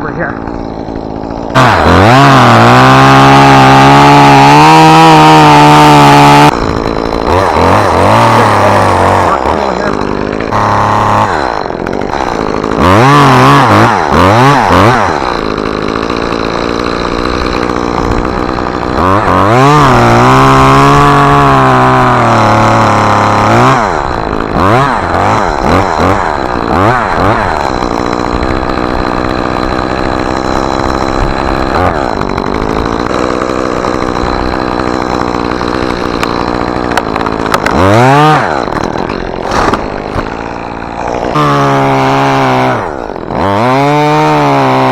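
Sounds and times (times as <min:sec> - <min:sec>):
chainsaw revving and cutting wood: 0:00.0 - 0:44.9.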